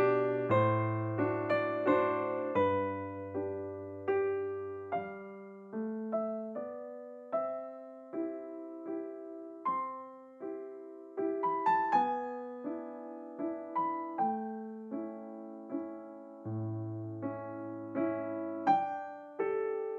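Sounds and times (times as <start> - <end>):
gentle piano piece: 0.0 - 19.9.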